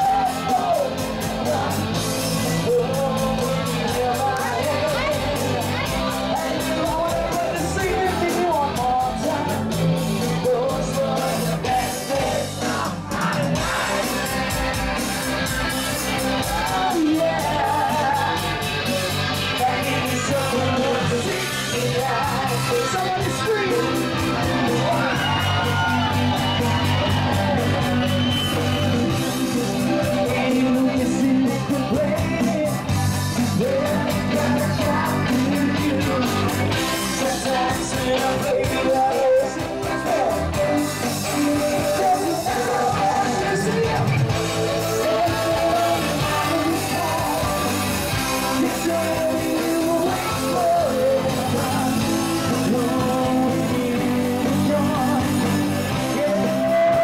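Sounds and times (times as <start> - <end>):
live band playing up-tempo song: 0.0 - 57.0
person singing: 0.0 - 57.0.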